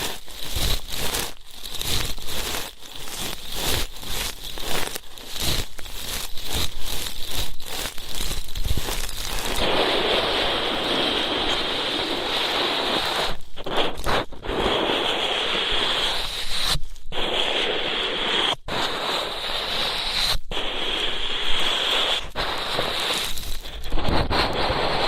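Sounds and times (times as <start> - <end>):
tool scratching on microphone: 0.0 - 25.0.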